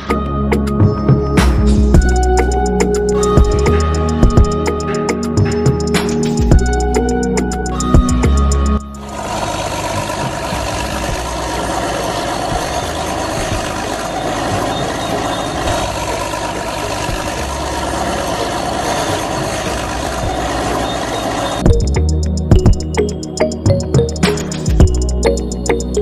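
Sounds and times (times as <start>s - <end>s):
motor vehicle engine idling: 2.0s - 26.0s.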